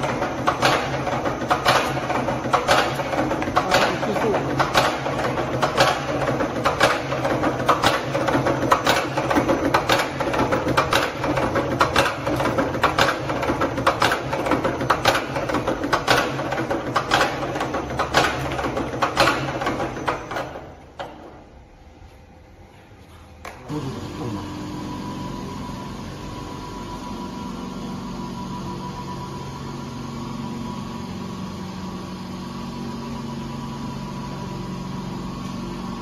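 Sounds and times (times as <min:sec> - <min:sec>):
machine motor hum: 0:00.0 - 0:36.0.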